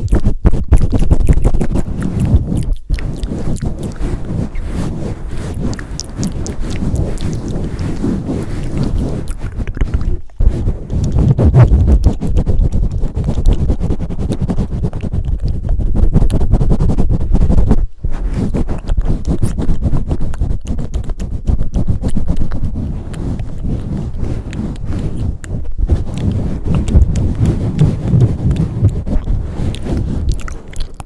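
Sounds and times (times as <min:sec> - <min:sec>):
hands thumping and rubbing microphone: 0:00.0 - 0:31.0.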